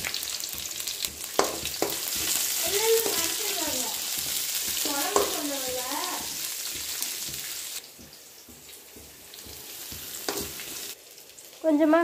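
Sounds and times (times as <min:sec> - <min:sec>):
wooden spatula stirring: 0:00.0 - 0:10.9
vegetables sizzling in hot oil: 0:00.0 - 0:12.0.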